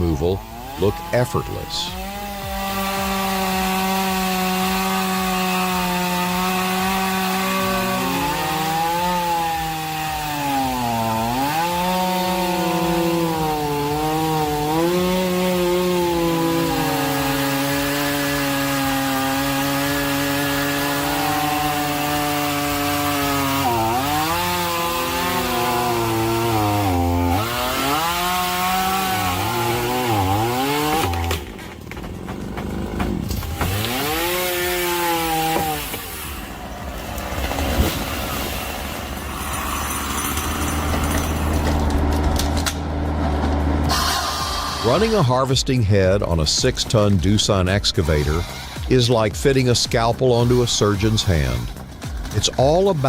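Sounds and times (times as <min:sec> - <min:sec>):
chainsaw cutting wood: 0:00.0 - 0:45.5, 0:46.2 - 0:53.0.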